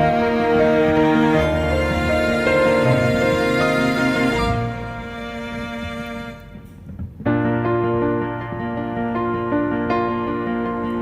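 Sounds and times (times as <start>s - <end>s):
slow keyboard music: 0.0s - 11.0s.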